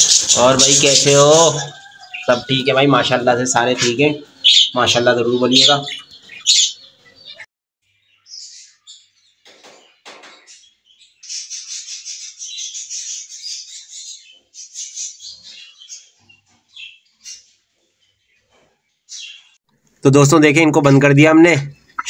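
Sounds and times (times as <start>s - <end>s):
small birds chirping: 0.0s - 20.0s, 21.2s - 22.0s.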